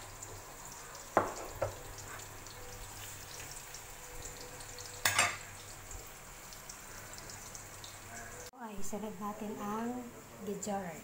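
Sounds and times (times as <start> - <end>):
onion frying in oil: 0.0 - 11.0.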